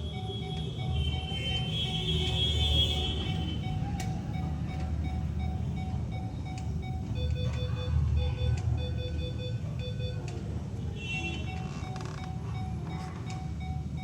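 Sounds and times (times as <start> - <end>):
medical monitor alarm beeping: 0.0 - 14.0.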